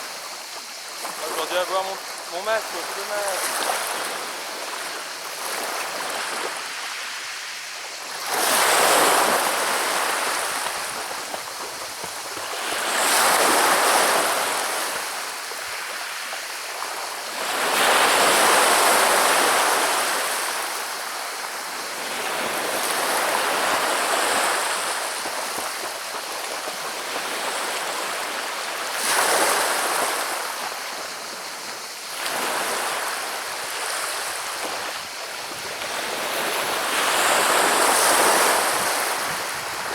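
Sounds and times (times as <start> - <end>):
waves rattling pebbles: 0.0 - 39.9.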